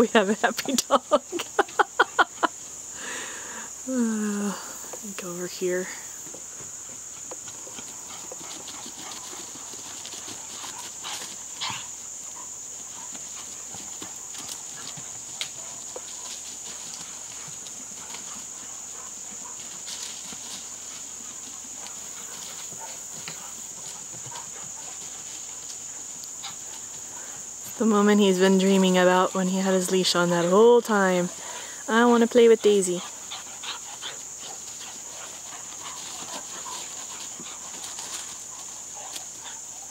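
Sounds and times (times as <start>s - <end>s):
crickets chirping: 0.0s - 39.9s
dogs wrestling on grass: 3.7s - 39.9s.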